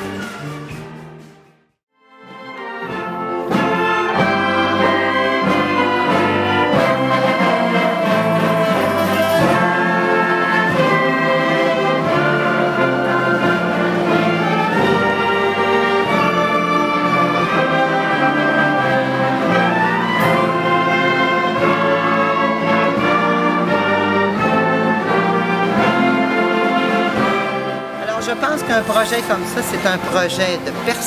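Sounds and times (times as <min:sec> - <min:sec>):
concert band playing: 0:02.2 - 0:31.0.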